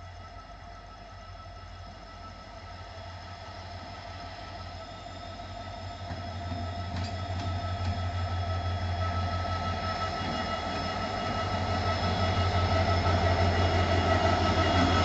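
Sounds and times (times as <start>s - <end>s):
diesel locomotive engine rumble: 0.0s - 15.0s
steady high whine: 0.0s - 15.0s.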